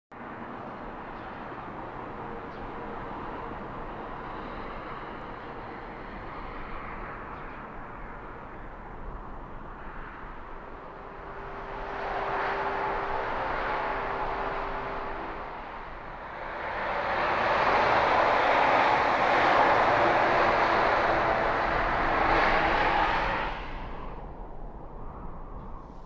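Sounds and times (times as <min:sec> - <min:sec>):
distant traffic rumble: 0:00.4 - 0:25.0.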